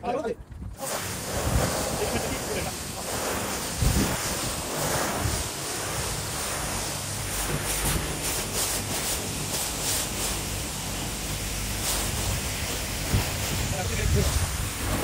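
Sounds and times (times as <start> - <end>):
low pump hum: 0.4 - 15.0
pressure washer spraying water: 0.8 - 15.0.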